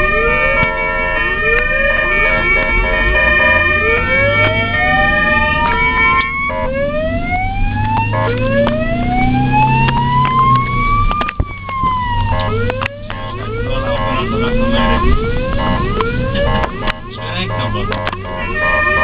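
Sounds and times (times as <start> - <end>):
ambulance siren wailing: 0.0 - 19.0.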